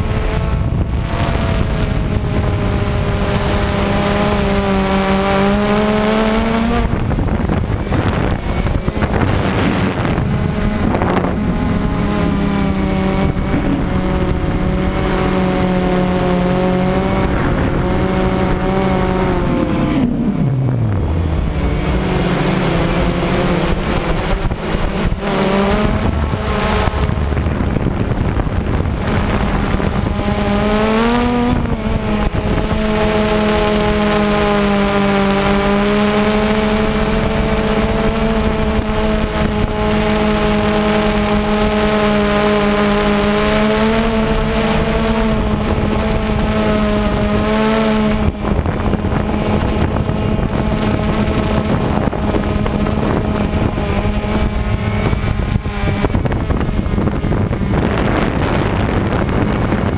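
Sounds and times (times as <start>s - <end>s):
drone motors whining: 0.0s - 59.9s
wind rush: 0.0s - 59.9s.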